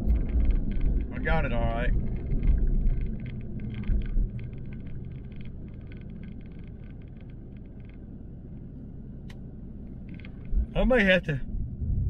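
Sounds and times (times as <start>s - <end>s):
rapid faint ticking: 0.0s - 10.8s
engine and tyre rumble: 0.0s - 12.0s.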